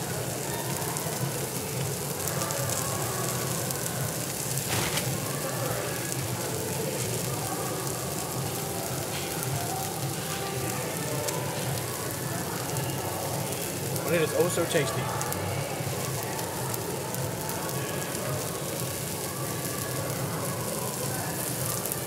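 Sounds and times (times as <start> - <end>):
meat sizzling on grill: 0.0 - 22.0.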